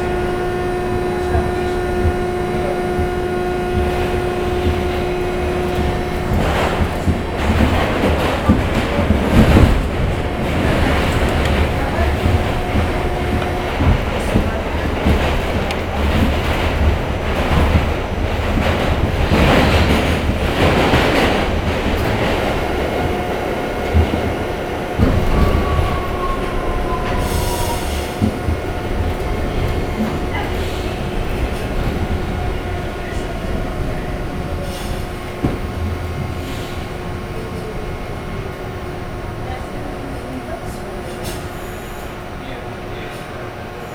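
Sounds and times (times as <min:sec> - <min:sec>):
subway train wheels rumbling: 0:00.0 - 0:43.9.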